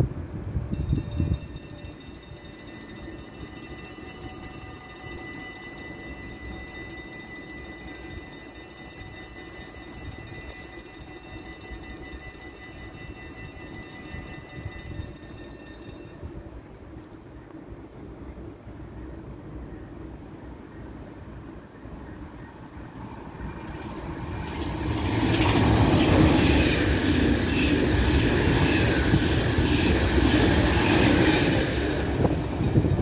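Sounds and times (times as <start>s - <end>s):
electric train whine: 0.0s - 33.0s
low rumble of train: 0.0s - 33.0s.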